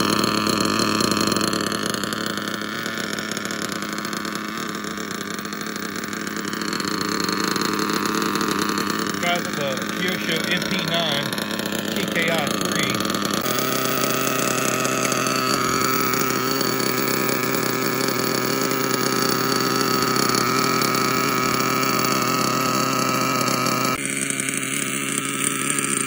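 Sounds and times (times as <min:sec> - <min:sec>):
nitro engine idling: 0:00.0 - 0:26.0.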